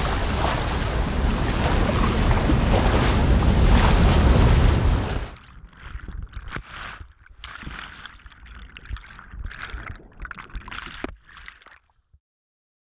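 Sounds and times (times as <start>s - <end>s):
underwater river gurgling: 0.0s - 11.9s.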